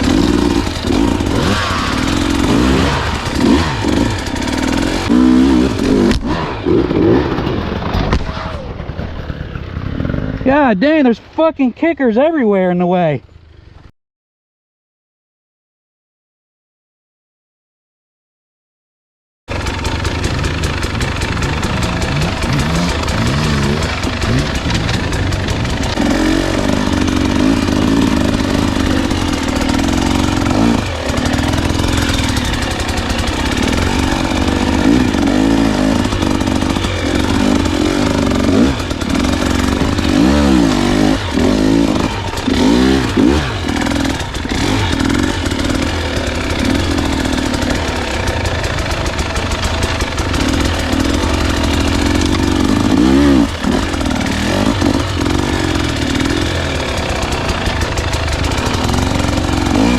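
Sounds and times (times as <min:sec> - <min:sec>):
dirt bike engine revving: 0:00.0 - 0:11.2, 0:19.5 - 0:59.9.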